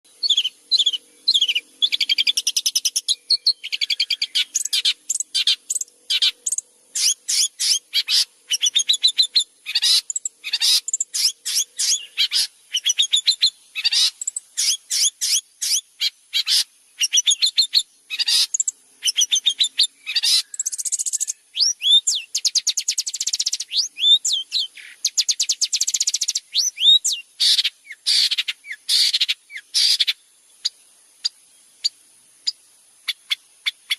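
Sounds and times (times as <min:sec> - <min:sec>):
bird singing chirps and trills: 0:00.1 - 0:33.9.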